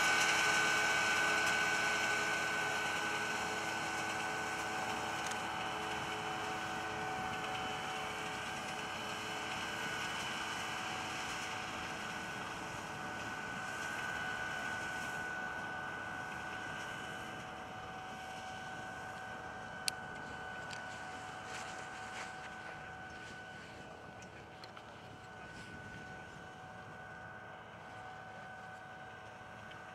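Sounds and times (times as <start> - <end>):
distant tractor engine drone: 0.0 - 29.9
steady whine: 0.0 - 29.9.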